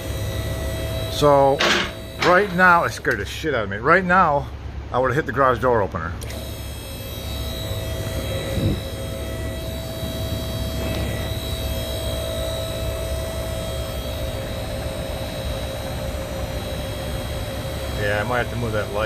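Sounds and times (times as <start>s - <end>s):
car lift motor and pump drone: 0.0s - 19.0s.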